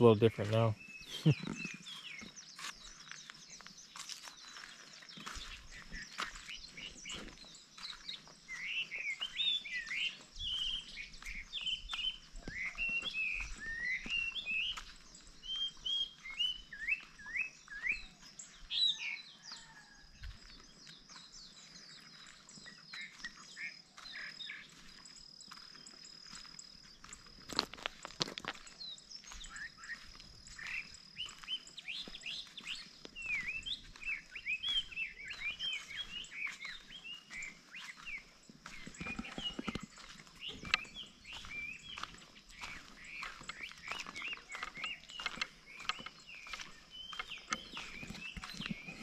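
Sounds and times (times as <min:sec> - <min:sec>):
birds chirping: 0:00.0 - 0:49.0
soft footsteps: 0:01.3 - 0:17.2, 0:19.6 - 0:49.0.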